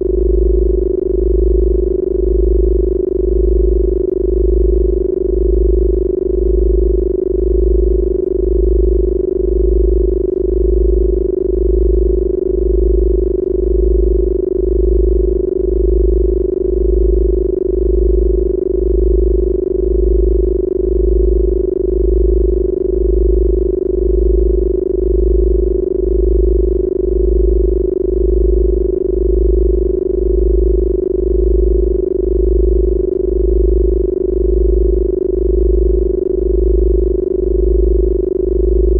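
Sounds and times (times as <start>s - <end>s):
pulsing deep bass tone: 0.0s - 38.9s
steady mid-pitched electronic tone: 0.0s - 38.9s.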